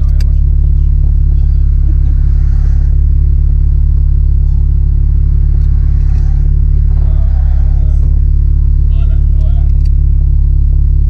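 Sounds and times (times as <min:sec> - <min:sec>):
car engine driving: 0:00.0 - 0:11.0
road noise: 0:00.0 - 0:11.0.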